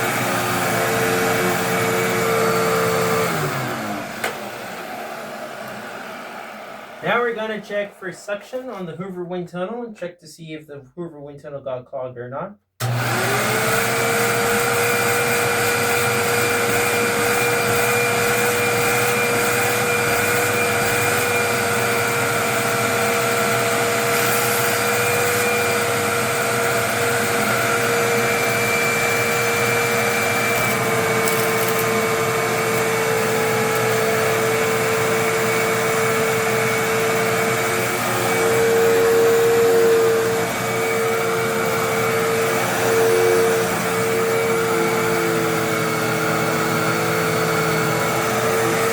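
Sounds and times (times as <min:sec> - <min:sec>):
vacuum cleaner motor whine: 0:00.0 - 0:07.1, 0:12.8 - 0:48.9.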